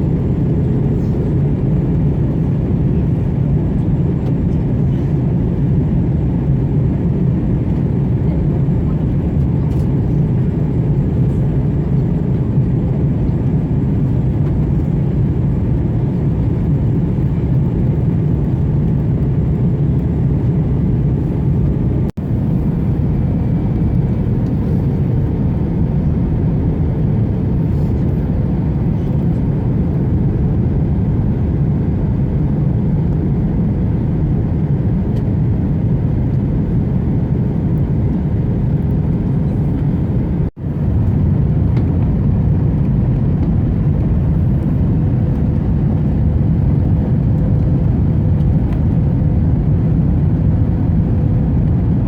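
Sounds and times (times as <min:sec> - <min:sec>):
airplane engines and cabin rumble: 0:00.0 - 0:52.0.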